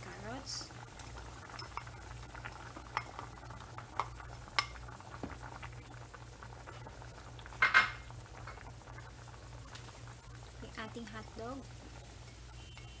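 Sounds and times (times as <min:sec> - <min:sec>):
soup boiling in a metal pot: 0:00.0 - 0:13.0.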